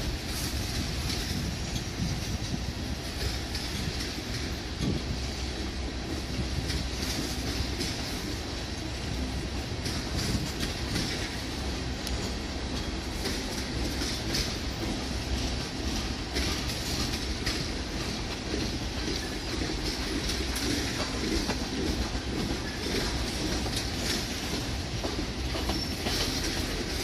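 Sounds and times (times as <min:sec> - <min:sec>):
train wheels rumbling on rail: 0:00.0 - 0:27.0
wheels clacking over rail joints: 0:00.0 - 0:27.0.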